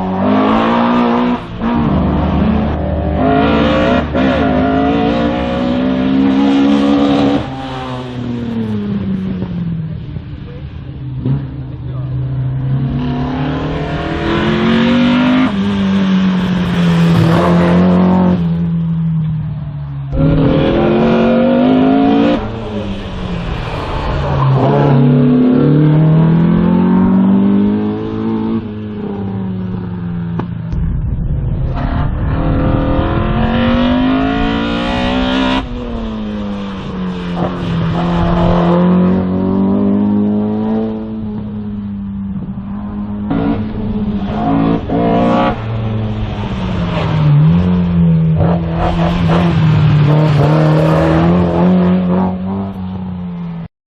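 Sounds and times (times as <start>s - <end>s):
race car engine revving: 0.0s - 31.0s, 31.6s - 53.0s.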